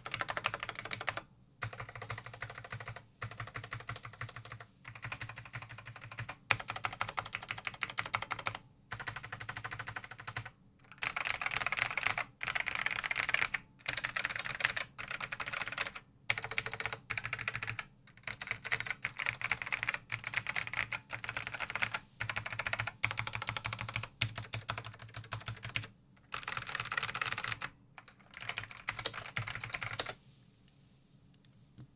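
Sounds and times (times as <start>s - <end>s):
mechanical keyboard typing: 0.0s - 30.2s.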